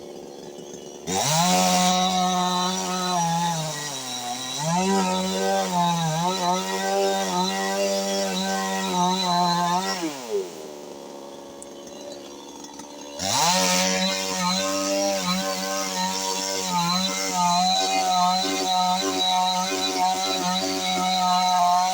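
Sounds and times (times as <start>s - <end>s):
two-stroke chainsaw revving and idling: 0.0s - 21.9s.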